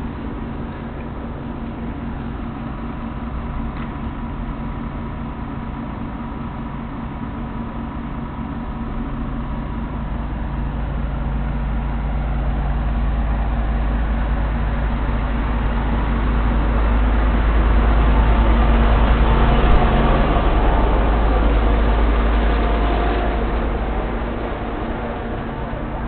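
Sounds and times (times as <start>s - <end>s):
fire engine running: 0.0s - 26.0s.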